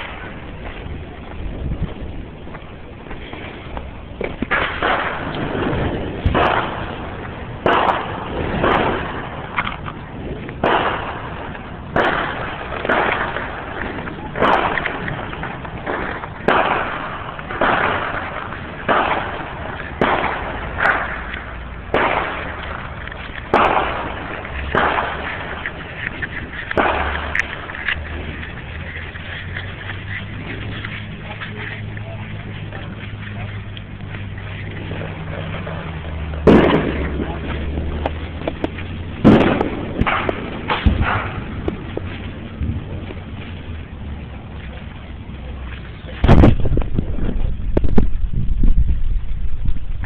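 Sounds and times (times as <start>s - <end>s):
fireworks bangs: 0.0s - 50.0s.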